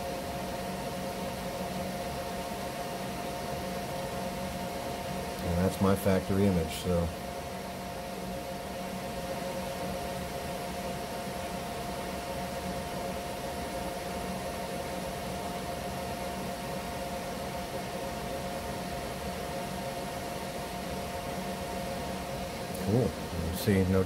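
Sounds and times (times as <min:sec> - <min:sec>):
fan hum and hiss: 0:00.0 - 0:24.0.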